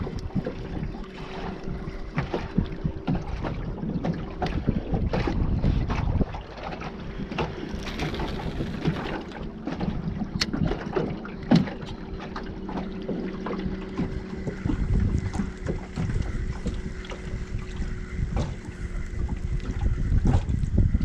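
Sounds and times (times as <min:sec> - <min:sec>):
water slapping against hull: 0:00.0 - 0:21.0
wind buffeting microphone: 0:00.0 - 0:21.0.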